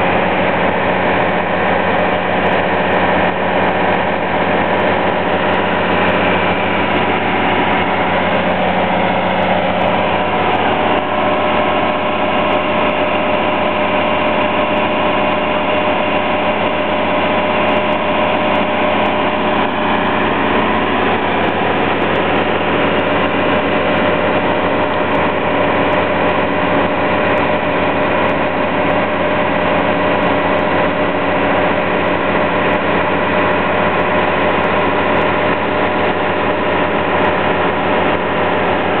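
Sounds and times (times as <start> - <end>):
diesel engine humming: 0.0 - 39.0.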